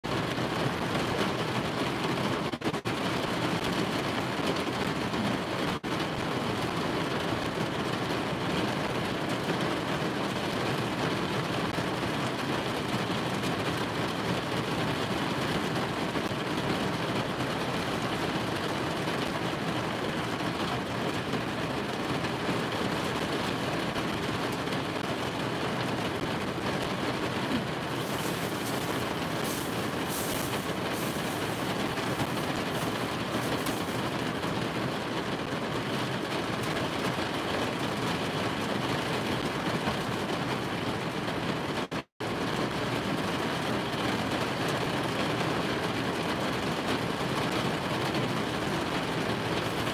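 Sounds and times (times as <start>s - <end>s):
heavy rain drumming on car roof: 0.0s - 49.9s.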